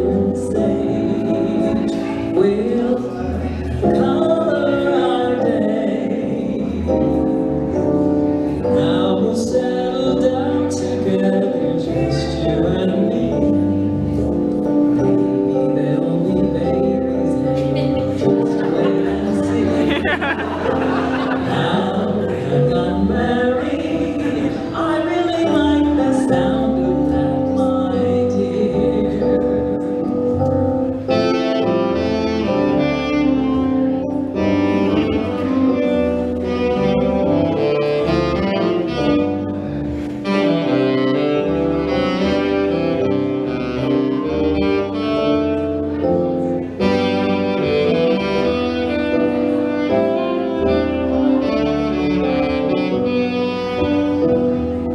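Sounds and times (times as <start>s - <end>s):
bass and accompaniment: 0.0s - 54.9s
saxophone melody: 3.8s - 54.9s.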